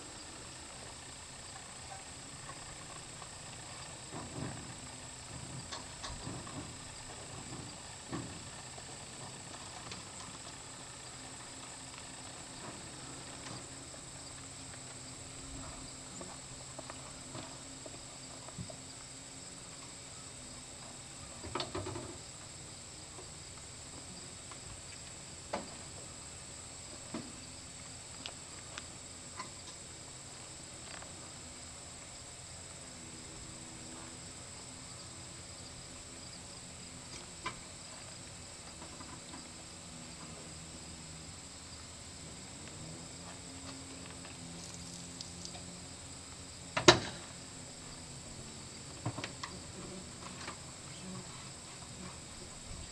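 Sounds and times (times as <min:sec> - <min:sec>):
faint high hum: 0:00.0 - 0:52.9.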